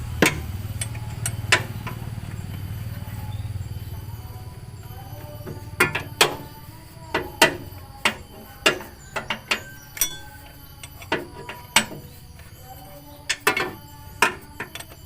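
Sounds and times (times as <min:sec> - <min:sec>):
metal tools knocking on engine: 0:00.0 - 0:15.0.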